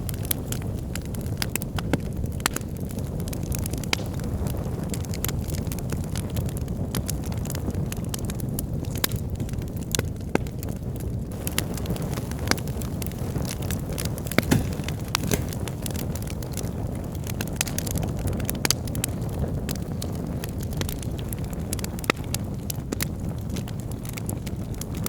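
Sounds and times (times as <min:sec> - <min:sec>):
fire rumbling: 0:00.0 - 0:25.0
logs crackling and popping: 0:00.0 - 0:25.0.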